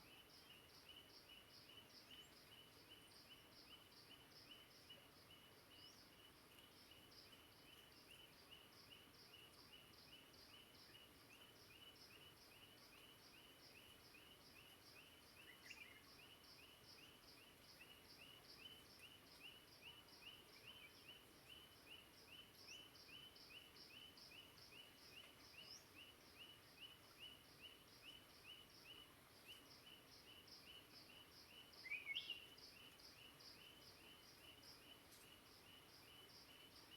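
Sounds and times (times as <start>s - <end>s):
soft hiss: 0.0s - 36.9s.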